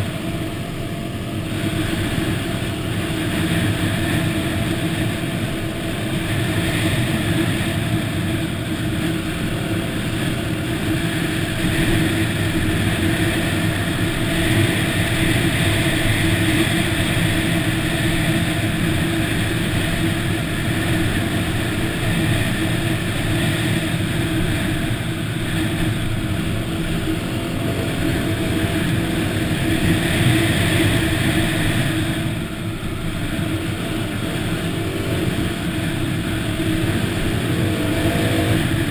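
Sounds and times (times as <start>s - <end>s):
dirt bike engine running: 1.5s - 38.9s.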